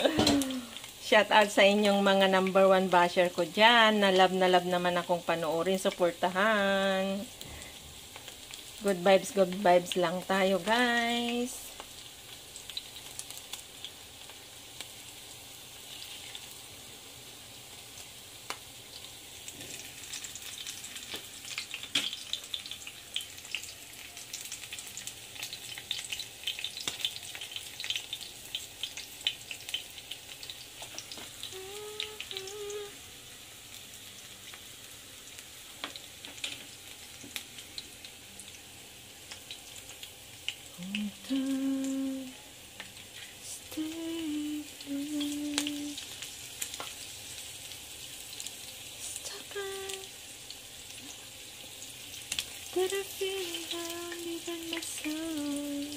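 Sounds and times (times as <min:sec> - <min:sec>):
fritters sizzling in oil: 0:00.0 - 0:55.9.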